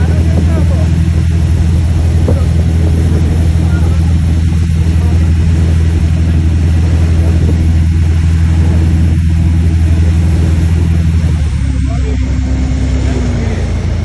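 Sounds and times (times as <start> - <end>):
wind rushing: 0.0 - 11.5
boat engine droning: 0.0 - 14.0
water churning: 0.0 - 14.0.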